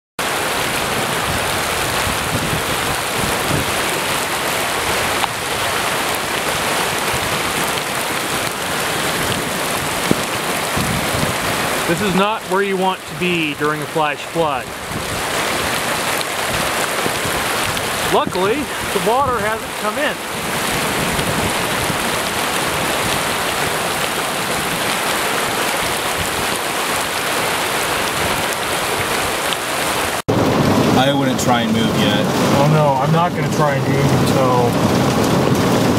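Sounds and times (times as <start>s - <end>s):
floodwater rushing: 0.2s - 35.9s
heavy rain pouring on car: 0.2s - 35.9s.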